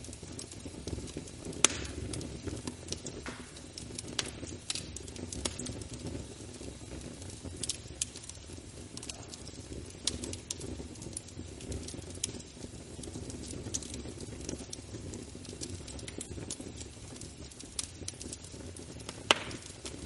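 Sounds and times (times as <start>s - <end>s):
fire crackles and pops: 0.0s - 20.0s
wood fire burning: 0.0s - 20.0s.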